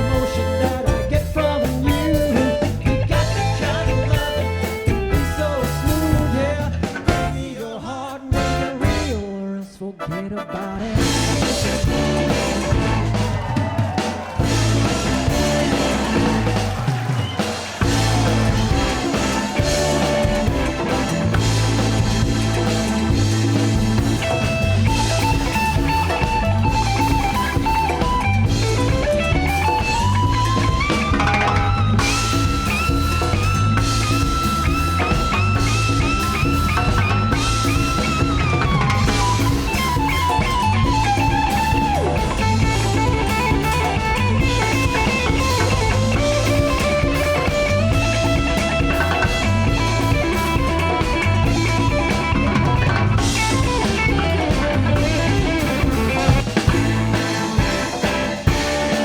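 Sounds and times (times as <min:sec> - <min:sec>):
drum kit and percussion: 0:00.0 - 0:59.0
electric guitar solo: 0:10.0 - 0:59.0.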